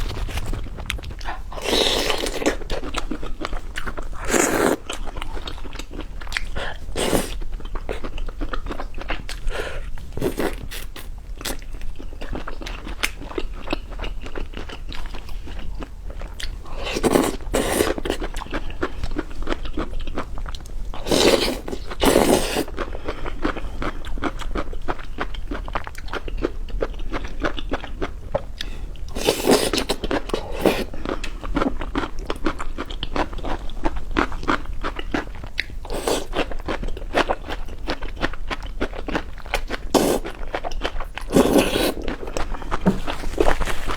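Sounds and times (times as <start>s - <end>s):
crunchy chewing: 0.0s - 43.9s.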